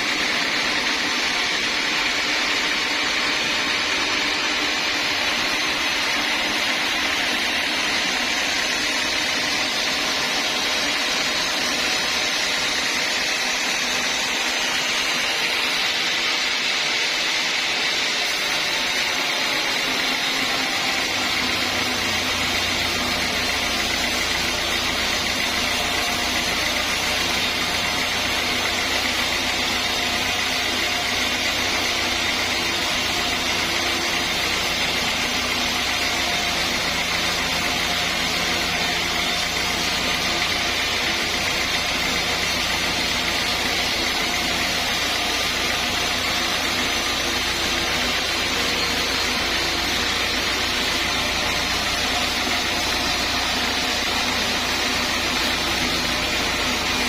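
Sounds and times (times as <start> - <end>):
sawmill saw whining: 0.0 - 57.0.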